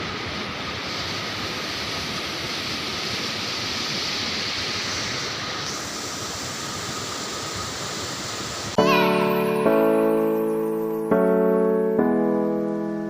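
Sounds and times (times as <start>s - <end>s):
waterfall rushing: 0.7s - 13.0s.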